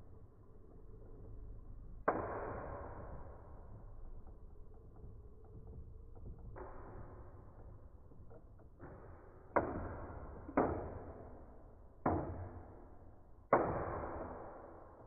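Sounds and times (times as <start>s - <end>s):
spinning tops in plastic stadium: 0.0s - 15.0s.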